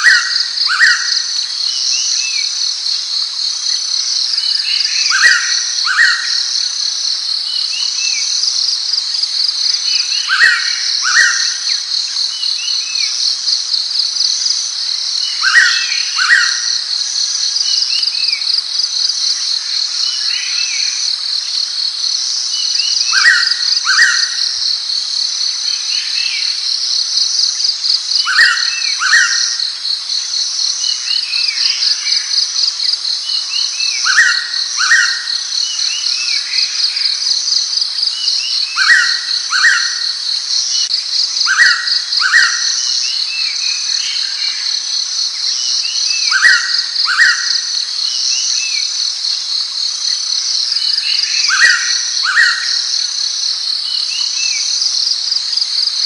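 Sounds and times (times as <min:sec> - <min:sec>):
pulsing insect chorus: 0:00.0 - 0:56.0.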